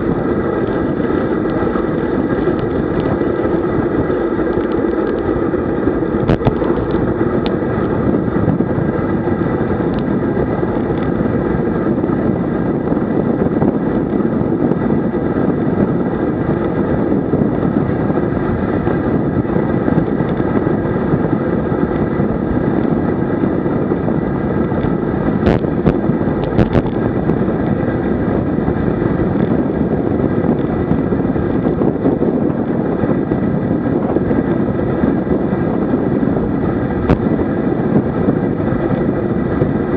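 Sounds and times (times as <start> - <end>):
bicycle tyre and road noise: 0.0 - 39.9
wind rush on microphone: 0.0 - 39.9.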